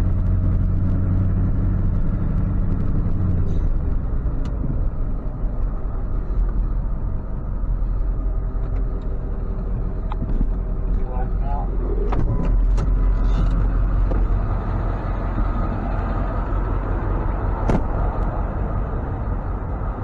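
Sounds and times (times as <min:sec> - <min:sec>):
road noise: 0:00.0 - 0:20.0
truck engine rumble: 0:00.0 - 0:20.0.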